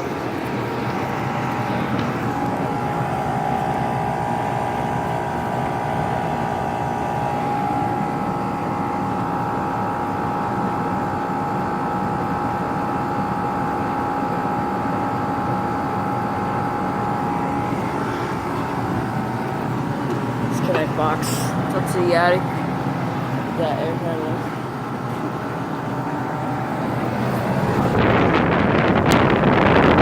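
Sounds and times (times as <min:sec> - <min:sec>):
compressor humming: 0:00.0 - 0:30.0
condenser fan blowing: 0:00.0 - 0:30.0
steady whine: 0:00.0 - 0:30.0.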